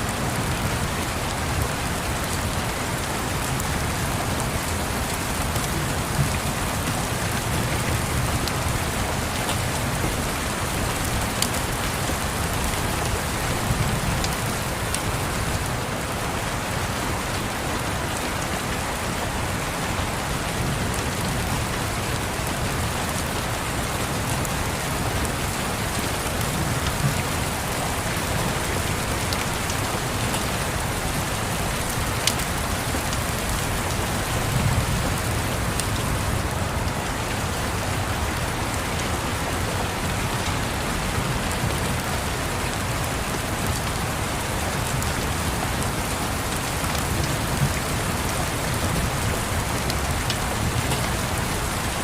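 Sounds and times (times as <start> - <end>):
steady rain pattering: 0.0 - 52.0.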